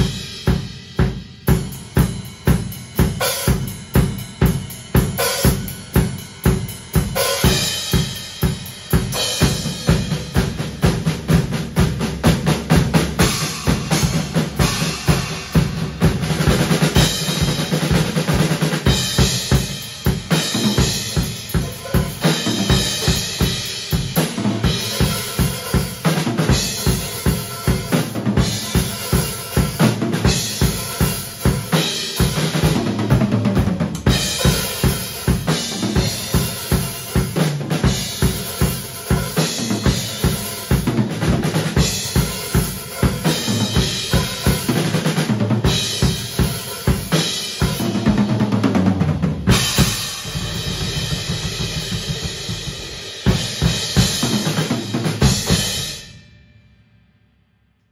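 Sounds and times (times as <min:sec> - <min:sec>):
bass drum: 0:00.0 - 0:55.8
cymbals: 0:00.0 - 0:56.9.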